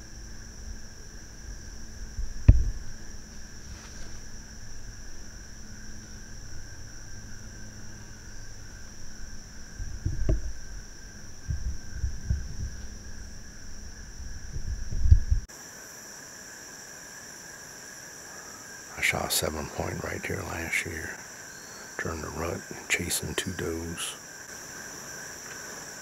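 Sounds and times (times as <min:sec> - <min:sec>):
insect chorus droning: 0:00.0 - 0:26.0.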